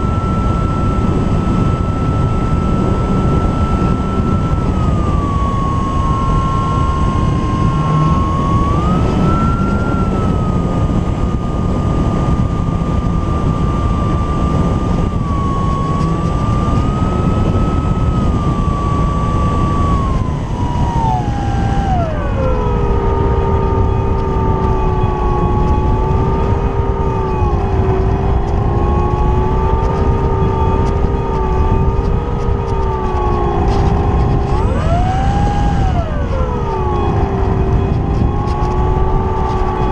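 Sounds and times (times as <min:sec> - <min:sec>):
electric propeller whining: 0:00.0 - 0:39.9
wind rushing: 0:00.0 - 0:39.9.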